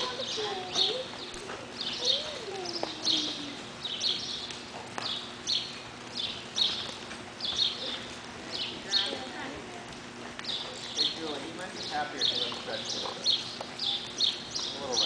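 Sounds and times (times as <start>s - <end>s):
small birds chirping: 0.0s - 9.5s, 10.3s - 15.0s.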